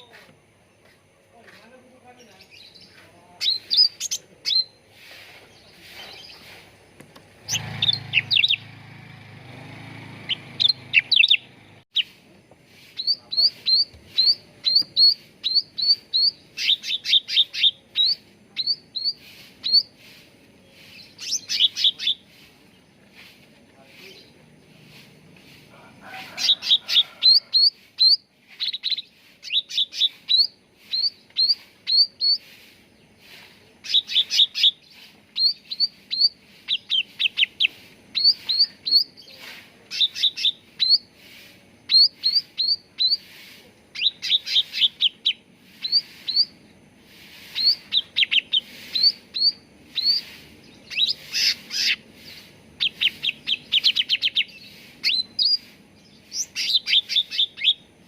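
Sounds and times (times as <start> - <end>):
bird chirping: 0.0 - 25.6, 26.4 - 58.0.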